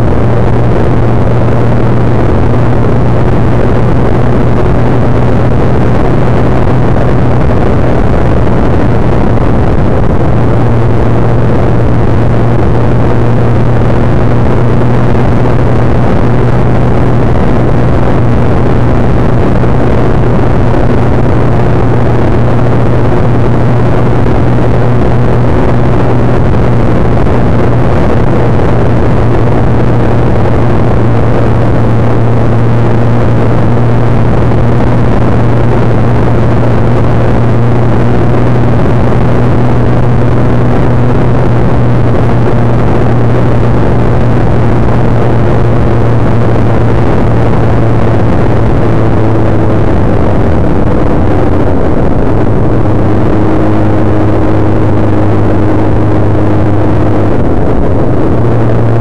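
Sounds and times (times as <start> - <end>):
motorcycle engine droning: 0.0 - 59.0
wind rush over microphone: 0.0 - 59.0.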